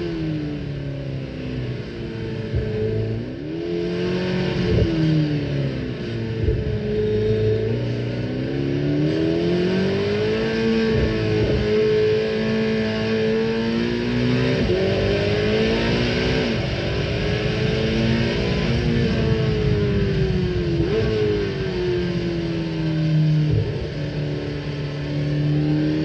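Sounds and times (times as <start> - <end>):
car engine revving hard: 1.3 - 26.0.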